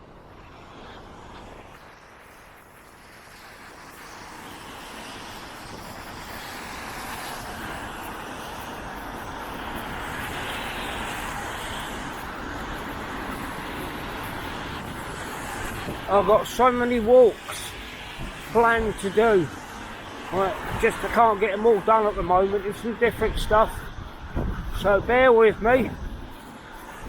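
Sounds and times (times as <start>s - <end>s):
traffic on a wet road: 0.0s - 27.0s.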